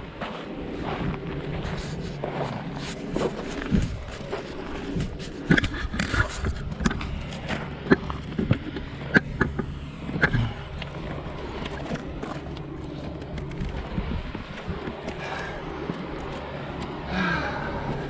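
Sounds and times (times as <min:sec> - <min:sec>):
vehicle engine running at low revs: 0:00.0 - 0:18.0.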